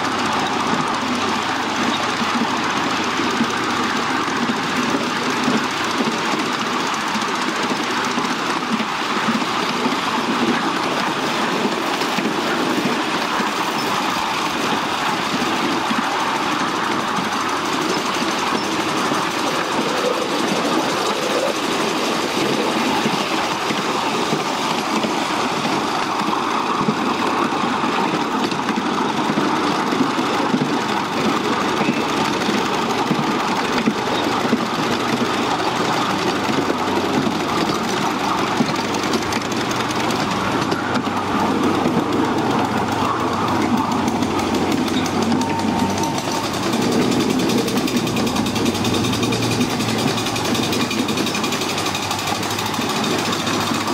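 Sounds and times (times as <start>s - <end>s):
miniature train engine: 0.0s - 53.9s
small wheels rumbling on rails: 0.0s - 53.9s.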